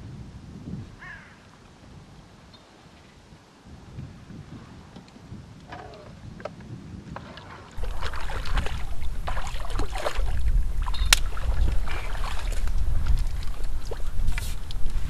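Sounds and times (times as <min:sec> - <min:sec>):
wind buffeting microphone: 0:00.0 - 0:02.5, 0:03.2 - 0:15.0.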